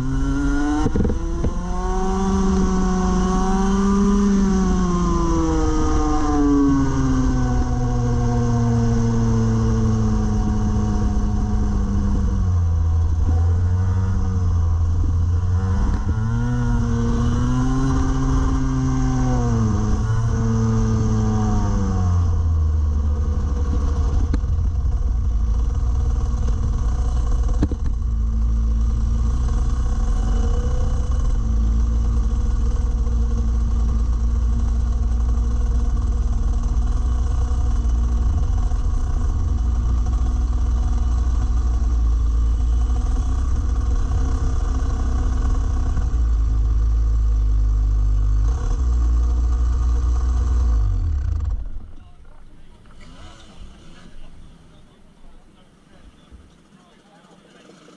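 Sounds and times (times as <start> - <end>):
kart engine running: 0.0 - 57.9.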